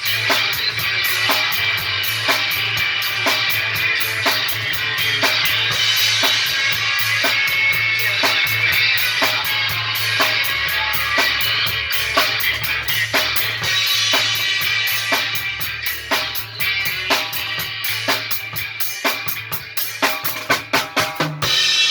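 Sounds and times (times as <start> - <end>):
rock and roll music: 0.0 - 21.9.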